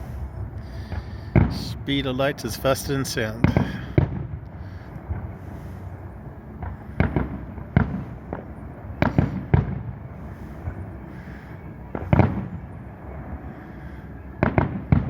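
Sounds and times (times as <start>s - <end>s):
distant fireworks bursting: 0.0s - 15.0s.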